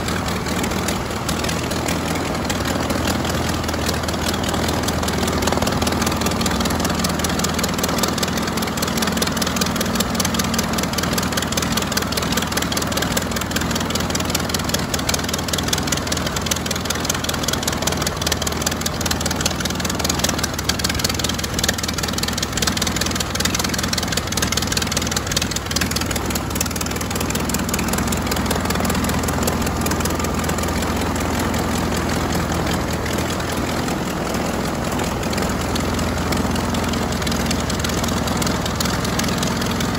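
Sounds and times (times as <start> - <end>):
biplane engine running: 0.0 - 39.9.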